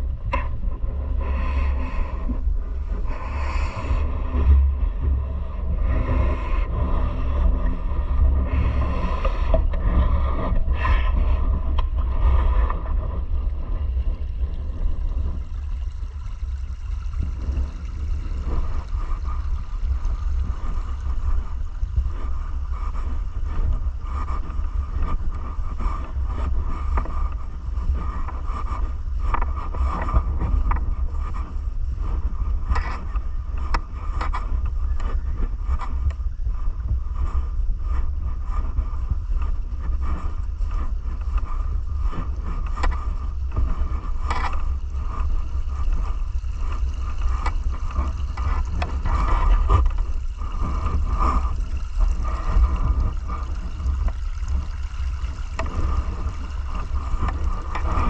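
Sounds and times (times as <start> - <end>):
river flowing under ice: 0.0 - 58.0.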